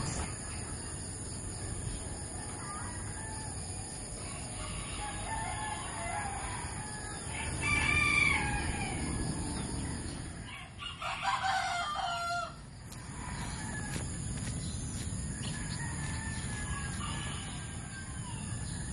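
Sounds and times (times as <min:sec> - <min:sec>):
roosters crowing: 0:02.4 - 0:14.3, 0:15.3 - 0:18.9.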